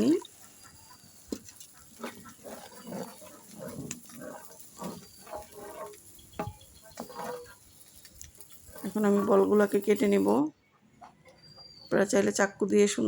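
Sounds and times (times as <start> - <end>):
hens clucking: 0.0 - 11.6.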